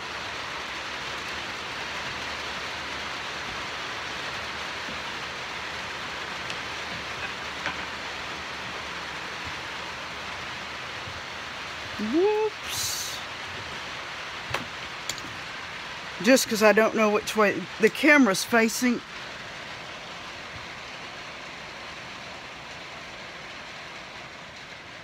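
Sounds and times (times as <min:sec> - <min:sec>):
hard rain falling: 0:00.0 - 0:25.0.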